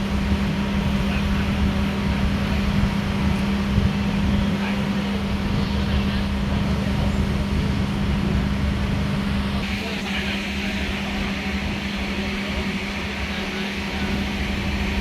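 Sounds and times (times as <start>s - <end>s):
railway carriage hum and rumble: 0.0s - 15.0s.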